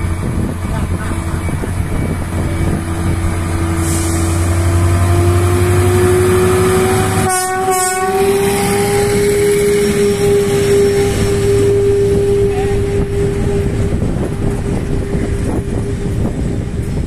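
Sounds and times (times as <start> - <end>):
locomotive engine running: 0.0 - 17.0.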